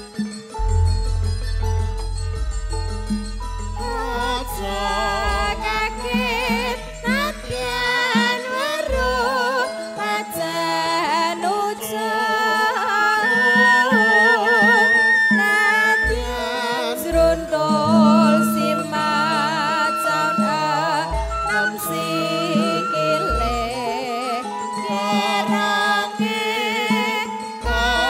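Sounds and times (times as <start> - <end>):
gamelan playing held tones: 0.0 - 10.1, 13.4 - 26.0
person singing ornamented melody: 0.1 - 28.0.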